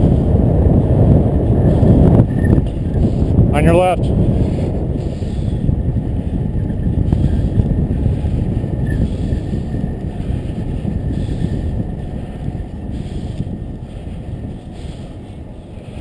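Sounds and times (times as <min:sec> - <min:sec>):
wind rush on microphone: 0:00.0 - 0:16.0.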